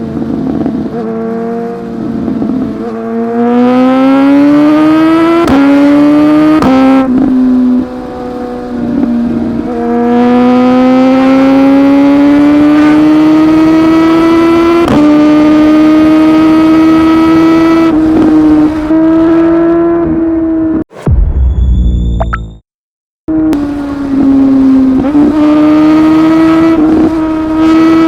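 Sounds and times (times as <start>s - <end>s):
motorcycle engine accelerating: 0.0s - 22.6s, 23.3s - 28.0s.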